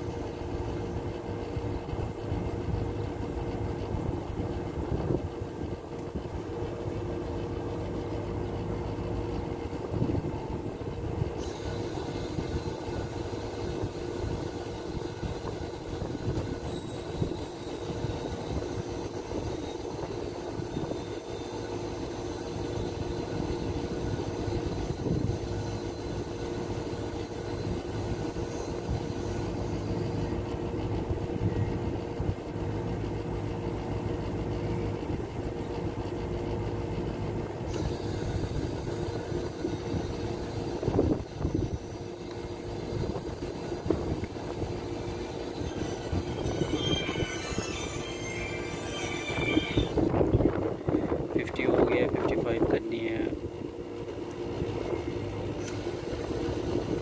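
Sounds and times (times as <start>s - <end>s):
air conditioner compressor and fan hum: 0.0s - 57.0s.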